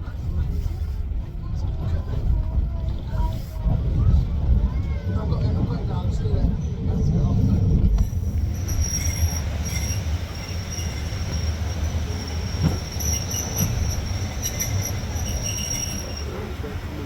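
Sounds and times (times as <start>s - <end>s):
train running rumble: 0.0s - 17.0s
train wheels squealing on rails: 3.2s - 17.0s.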